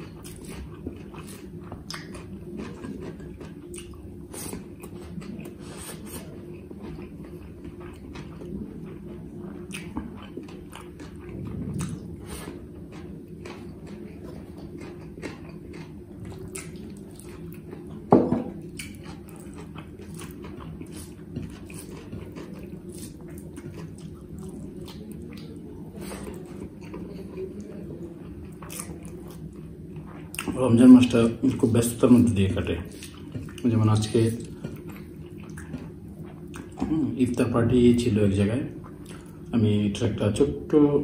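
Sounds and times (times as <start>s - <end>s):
man chewing: 0.0s - 37.5s, 38.7s - 39.5s
steady low hum: 0.0s - 41.0s.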